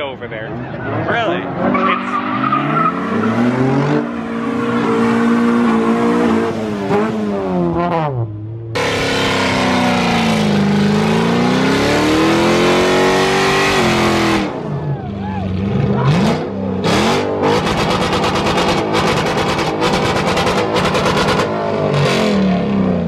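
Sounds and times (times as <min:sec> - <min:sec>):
car engine revving hard: 0:01.4 - 0:08.2, 0:08.8 - 0:14.7, 0:15.6 - 0:23.0.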